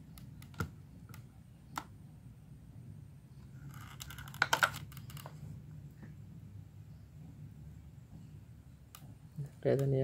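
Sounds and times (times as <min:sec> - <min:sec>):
low steady background hum: 0:00.0 - 0:10.0.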